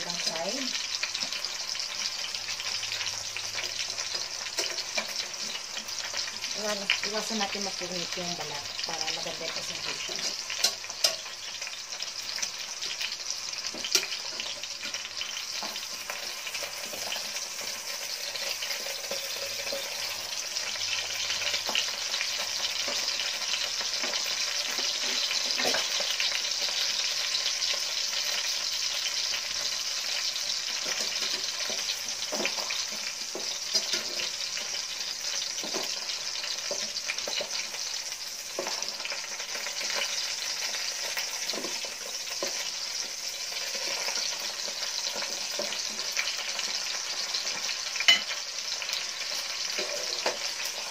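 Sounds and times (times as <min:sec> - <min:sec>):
chicken sizzling in hot oil: 0:00.0 - 0:50.9.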